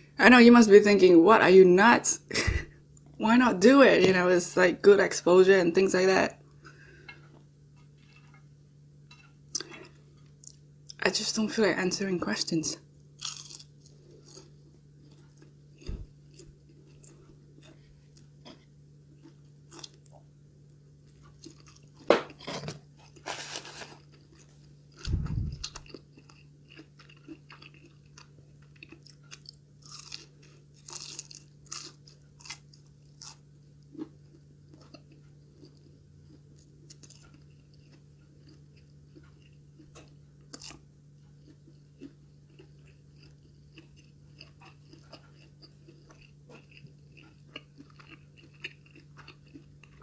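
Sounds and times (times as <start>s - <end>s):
faint steady hum: 0.0s - 50.0s
crunchy chewing: 6.5s - 11.0s, 13.0s - 50.0s.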